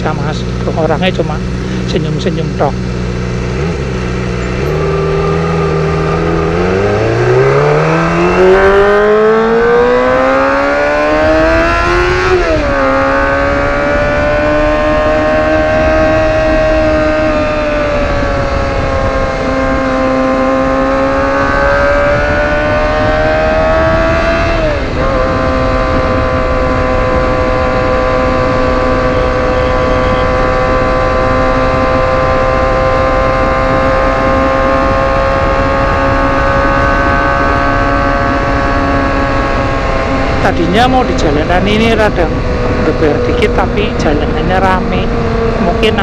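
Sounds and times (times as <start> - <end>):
motorcycle engine cruising: 0.0 - 46.0.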